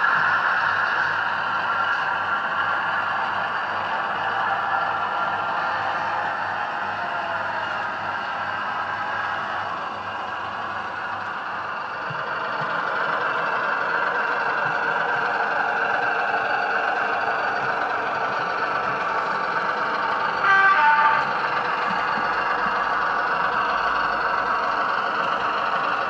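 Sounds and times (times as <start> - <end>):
model train diesel engine sound: 0.0 - 26.0.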